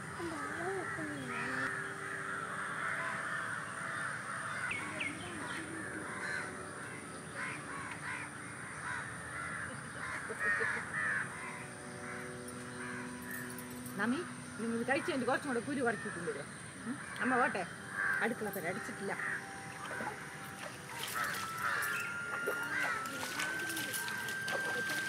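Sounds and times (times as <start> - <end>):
many birds calling: 0.0 - 25.0.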